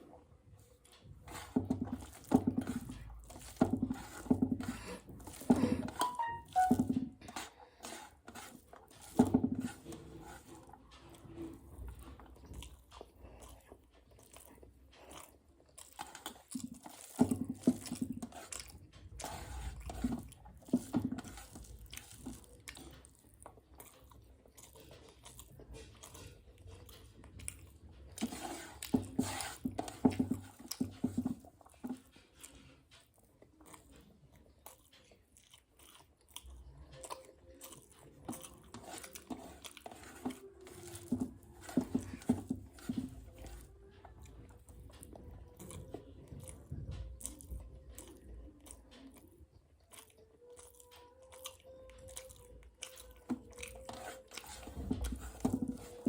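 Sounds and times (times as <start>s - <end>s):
food crunching: 0.0s - 56.0s
person chewing food: 0.0s - 56.0s.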